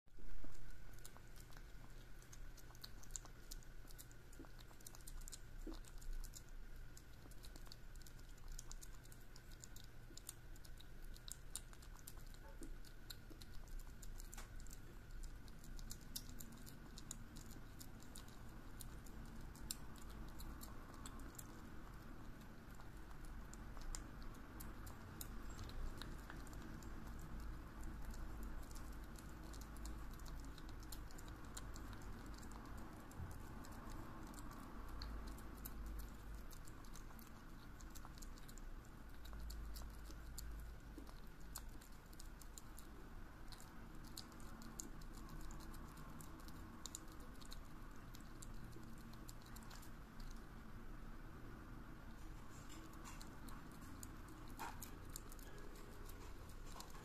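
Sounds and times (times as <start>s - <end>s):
faint low hum: 0.1s - 57.0s
kitten licking and chewing food: 0.1s - 57.0s.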